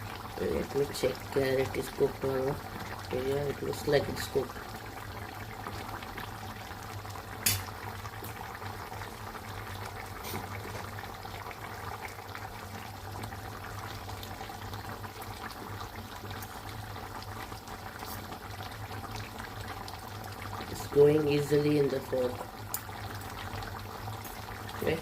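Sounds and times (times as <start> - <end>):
stew bubbling in a pan: 0.0 - 25.0.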